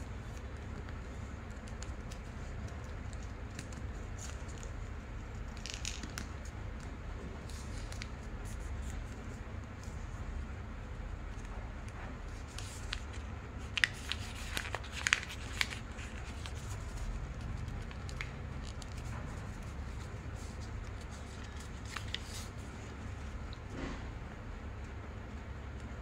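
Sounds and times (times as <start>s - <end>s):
low steady hum: 0.0s - 26.0s
paper crinkling and folding: 0.1s - 10.2s, 11.1s - 23.5s.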